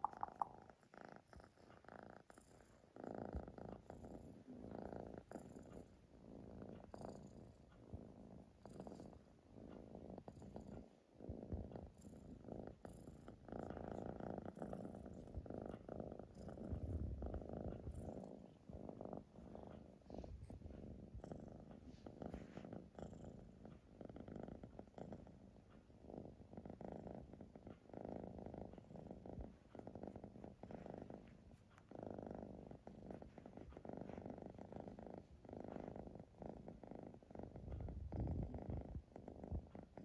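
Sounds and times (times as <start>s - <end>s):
kitten purring: 0.0s - 40.0s.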